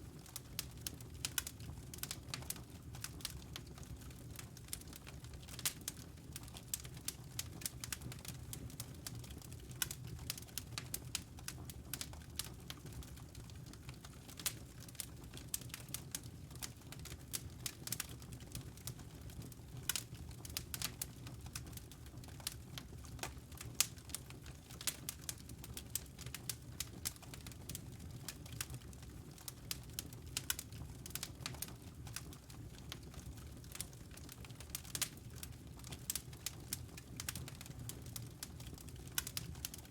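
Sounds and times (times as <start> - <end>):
burning logs crackling and popping: 0.0 - 39.9.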